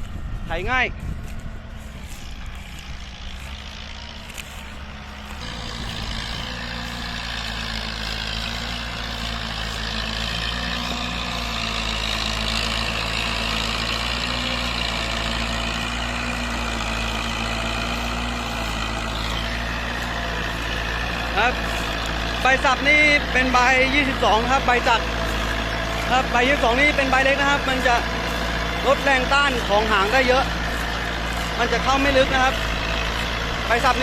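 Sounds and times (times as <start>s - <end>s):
tractor diesel engine: 0.0s - 34.0s.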